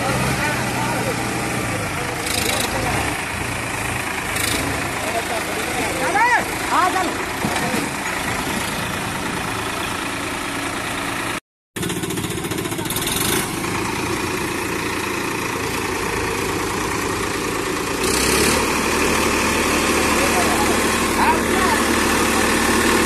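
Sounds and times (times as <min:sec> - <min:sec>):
tractor diesel engine idling: 0:00.0 - 0:23.0.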